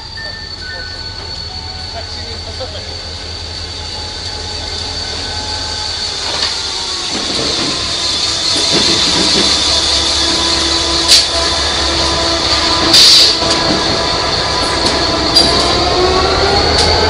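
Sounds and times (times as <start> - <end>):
locomotive engines rumbling: 0.0 - 17.0
wheels ringing on rail: 0.0 - 17.0.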